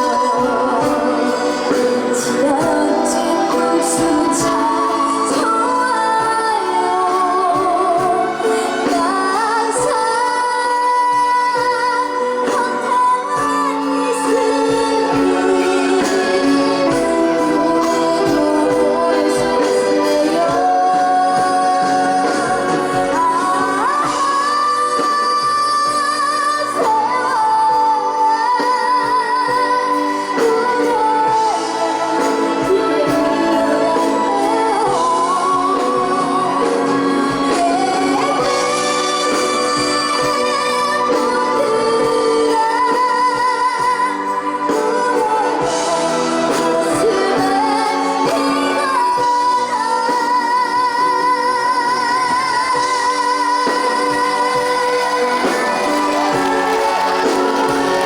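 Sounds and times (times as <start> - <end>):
instrumental accompaniment: 0.0 - 58.0.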